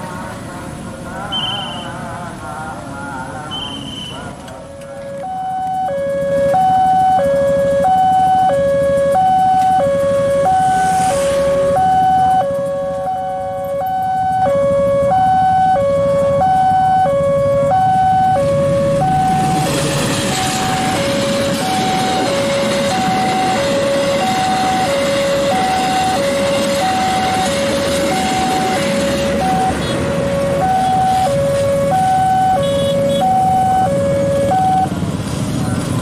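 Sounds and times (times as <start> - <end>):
train rumble and wheel noise: 0.0 - 36.0
level crossing alarm two-tone: 1.3 - 1.9, 5.1 - 35.0.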